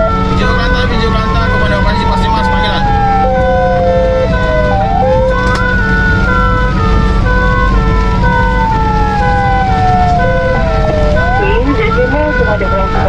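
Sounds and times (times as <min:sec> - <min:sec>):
truck engine rumble: 0:00.0 - 0:13.0
two-tone siren: 0:00.0 - 0:13.0
wailing siren: 0:00.0 - 0:13.0.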